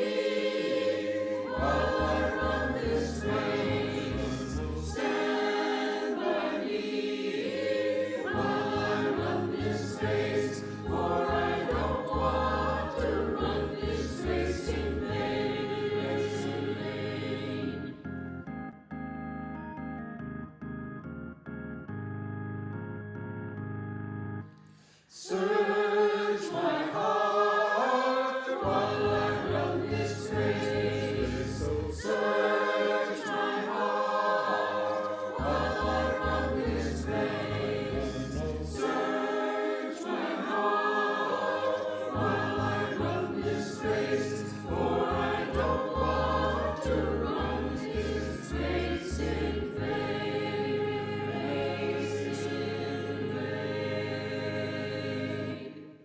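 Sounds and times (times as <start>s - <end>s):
choir singing: 0.0s - 18.0s, 25.1s - 56.0s.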